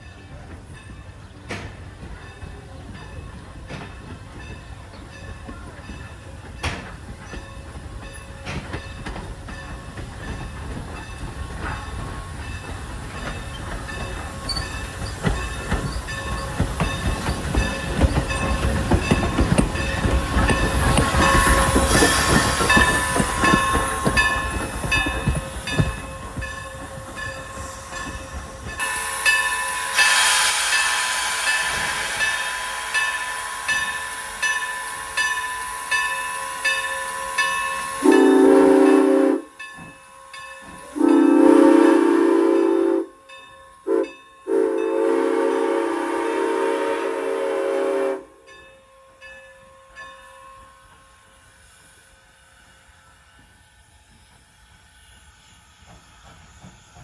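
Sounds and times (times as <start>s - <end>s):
steam train wheels clickety-clack: 0.0s - 57.0s.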